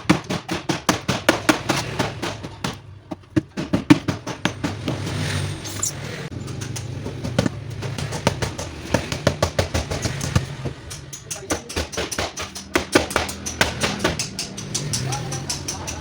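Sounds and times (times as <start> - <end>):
sharp knocks and taps: 0.0 - 5.3, 6.3 - 16.0.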